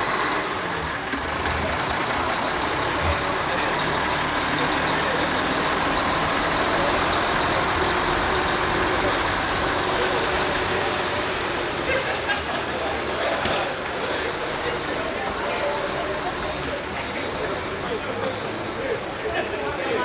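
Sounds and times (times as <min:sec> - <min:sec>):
road noise: 0:00.0 - 0:20.0
truck diesel engine rumble: 0:00.0 - 0:20.0.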